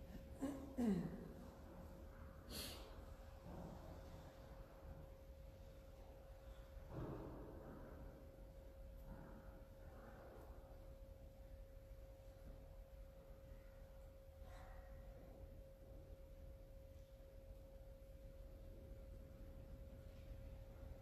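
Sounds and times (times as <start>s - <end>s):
steady high hum: 0.0s - 21.0s.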